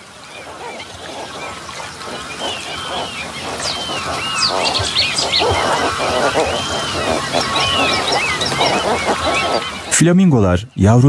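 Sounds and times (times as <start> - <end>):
flamingos calling: 0.0 - 10.1.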